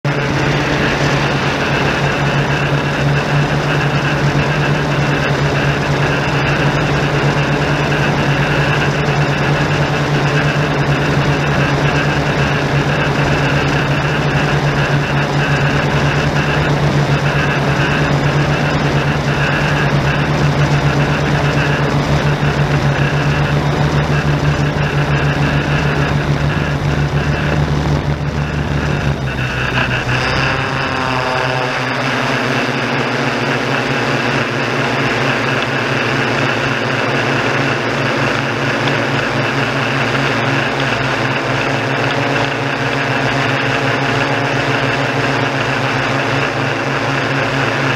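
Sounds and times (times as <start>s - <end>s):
drone motors humming: 0.0s - 47.9s.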